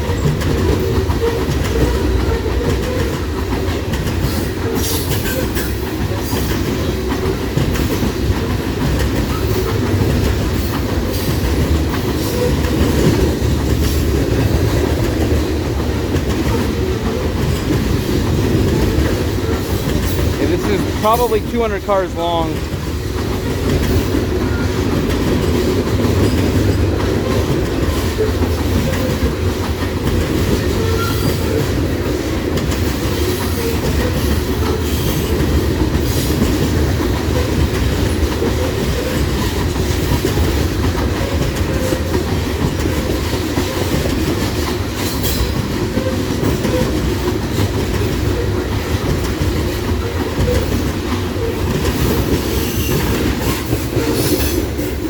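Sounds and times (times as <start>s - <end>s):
freight train rumble: 0.0s - 55.0s
wheels clacking over rail joints: 0.0s - 55.0s.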